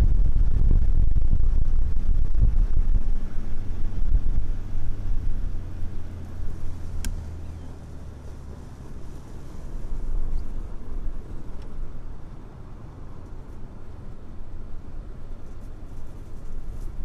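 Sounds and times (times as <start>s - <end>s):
vehicle engine humming: 0.0s - 17.0s
wind rumbling on microphone: 0.0s - 17.0s.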